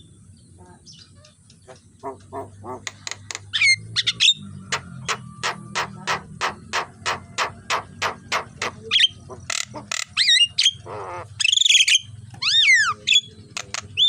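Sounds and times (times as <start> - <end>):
myna squawks and chirps: 1.2 - 14.0.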